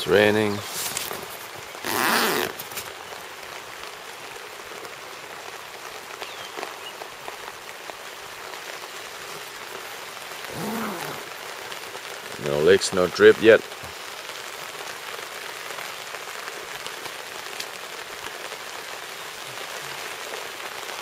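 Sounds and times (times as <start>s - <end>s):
rain on a tent: 0.0s - 21.0s.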